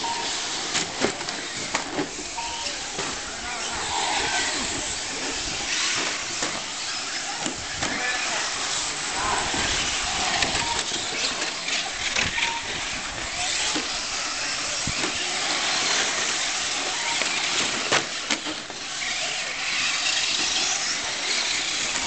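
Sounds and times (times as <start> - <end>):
toy truck motors whining: 0.0 - 22.0.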